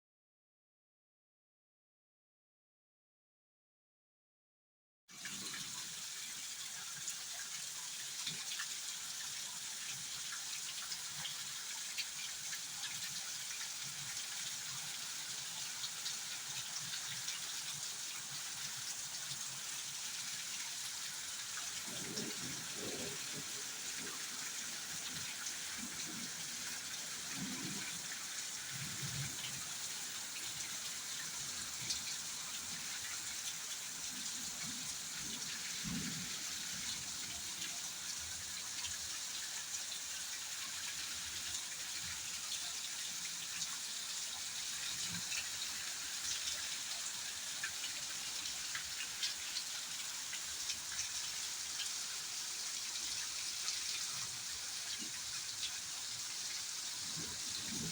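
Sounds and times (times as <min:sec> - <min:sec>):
steady rain falling: 0:05.2 - 0:57.9.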